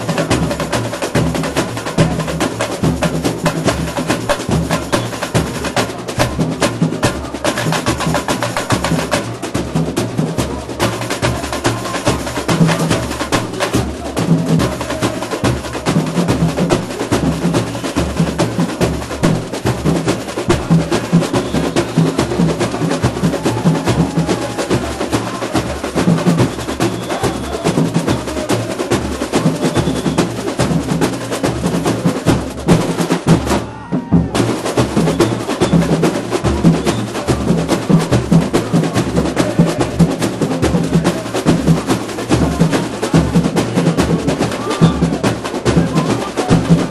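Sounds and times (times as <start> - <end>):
deep bass drums beating: 0.0 - 46.9
snare and small drums rattling: 0.0 - 46.9.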